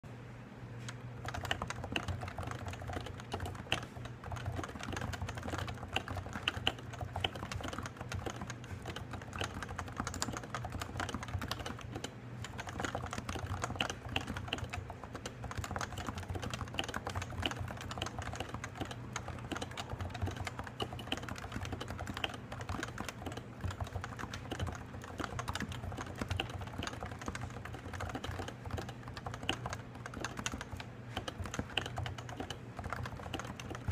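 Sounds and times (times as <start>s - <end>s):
steady low hum: 0.0s - 33.9s
fast typing on a keyboard: 1.2s - 33.9s.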